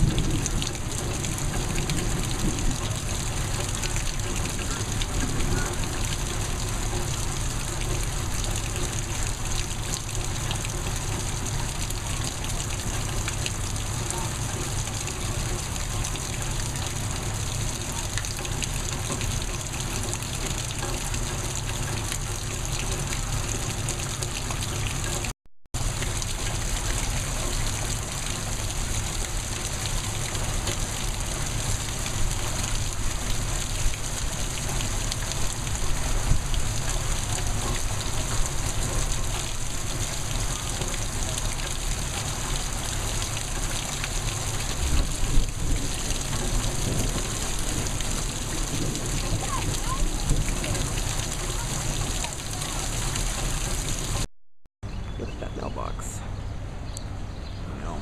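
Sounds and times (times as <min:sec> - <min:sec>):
heavy rain pouring: 0:00.0 - 0:54.3.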